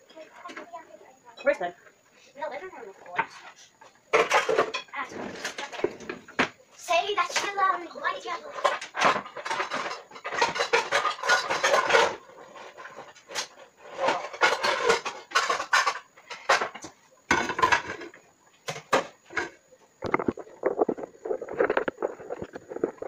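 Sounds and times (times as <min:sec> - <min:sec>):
pots pans and cutlery clattering: 0:03.1 - 0:07.6, 0:08.2 - 0:23.0.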